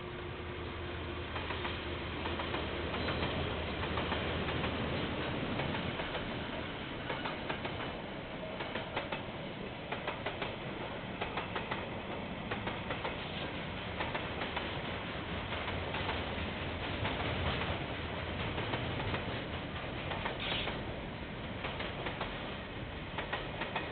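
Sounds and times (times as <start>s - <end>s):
train rumbling past: 0.0s - 23.9s
wheels clicking over rail joints: 1.4s - 9.3s, 11.2s - 21.0s, 21.6s - 23.9s.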